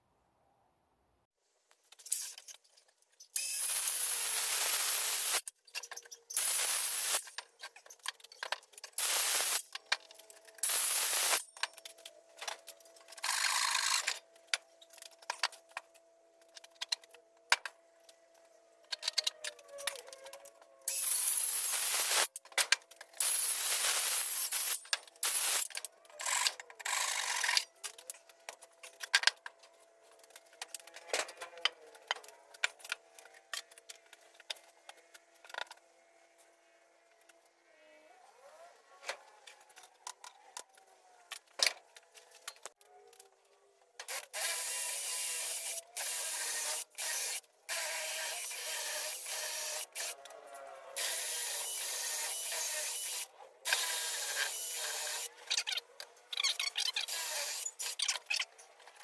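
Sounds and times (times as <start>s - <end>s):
sped-up woodworking tool noise: 3.3s - 42.8s, 44.0s - 59.0s.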